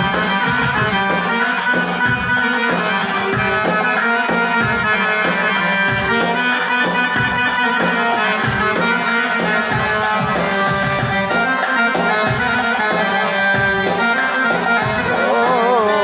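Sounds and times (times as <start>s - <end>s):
accordion playing: 0.0s - 16.0s
steady rhythmic beat: 0.0s - 16.0s.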